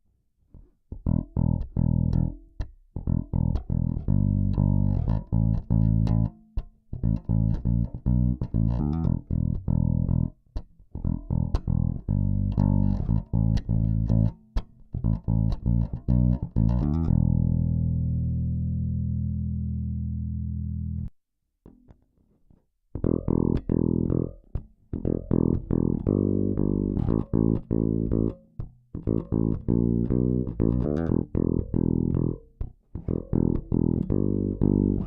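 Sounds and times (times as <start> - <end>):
electric bass plucked notes: 0.9 - 21.1, 22.9 - 35.0.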